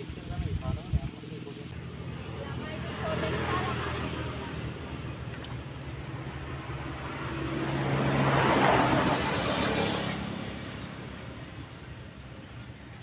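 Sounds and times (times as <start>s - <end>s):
vehicle passing rush: 1.2s - 13.0s.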